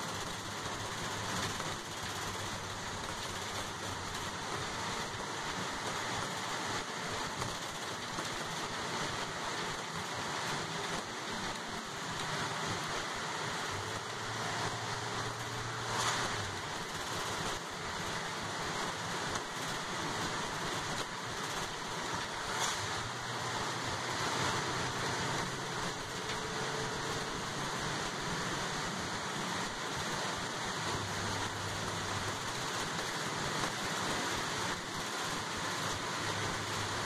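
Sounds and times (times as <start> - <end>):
bus engine low hum: 0.0 - 37.0
tyres hissing on wet road: 0.0 - 37.0.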